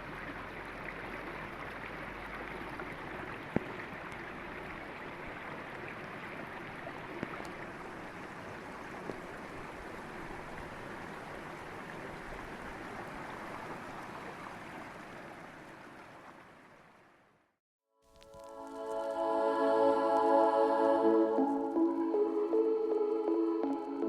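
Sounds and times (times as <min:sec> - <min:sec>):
river water flowing over rocks: 0:00.0 - 0:17.2, 0:18.1 - 0:24.0.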